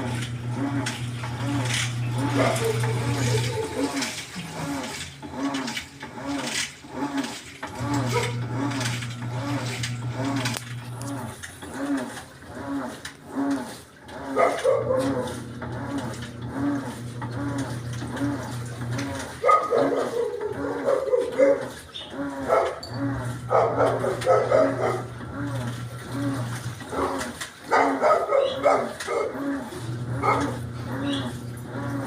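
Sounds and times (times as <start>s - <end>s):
motor low hum: 0.0s - 32.0s
washing machine drum swishing: 0.0s - 32.0s.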